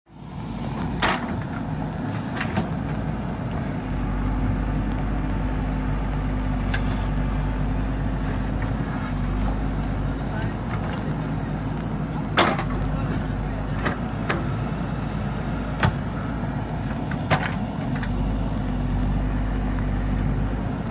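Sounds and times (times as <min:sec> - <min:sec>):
diesel engine running: 0:00.1 - 0:20.9.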